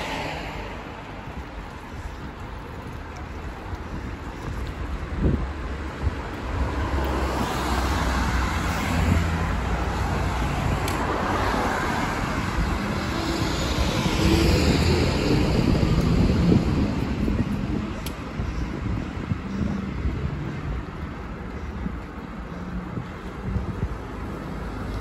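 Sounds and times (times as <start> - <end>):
cars passing: 0.0 - 25.0
wind on microphone: 0.0 - 25.0.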